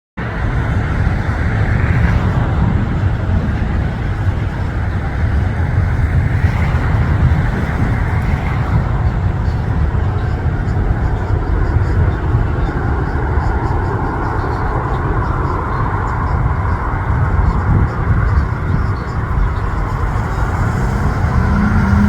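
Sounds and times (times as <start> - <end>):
jet airliner rumble: 0.2 - 22.0.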